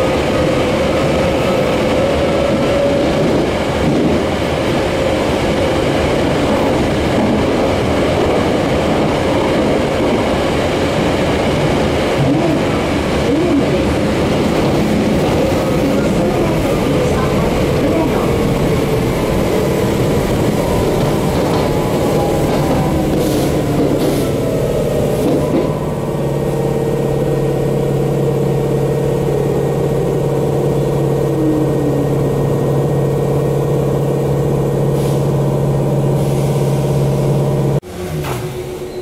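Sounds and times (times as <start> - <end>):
electric train rumbling: 0.0 - 39.0
train motor hum: 0.0 - 39.0.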